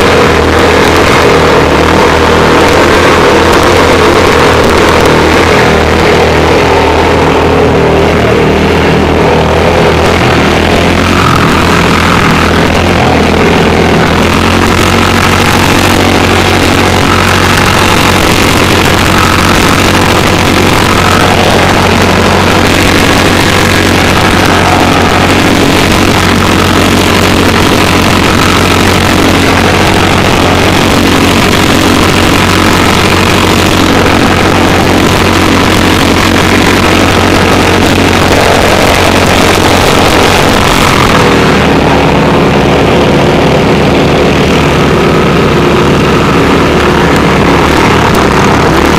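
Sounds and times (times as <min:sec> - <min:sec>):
water pump engine running: 0:00.0 - 0:48.9.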